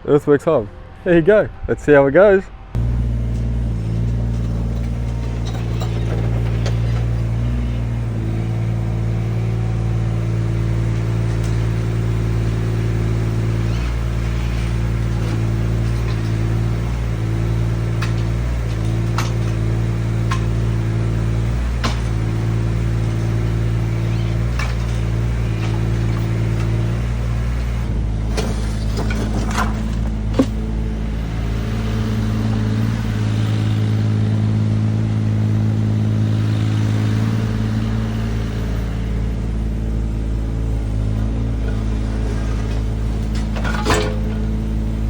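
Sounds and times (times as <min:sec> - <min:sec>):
excavator diesel engine running: 0:02.7 - 0:45.0
hydraulics working: 0:02.7 - 0:45.0.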